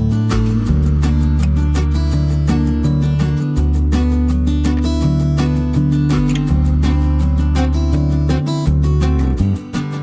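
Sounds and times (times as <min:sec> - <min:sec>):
bass line: 0:00.0 - 0:09.8
plucked and strummed guitar: 0:00.0 - 0:10.0.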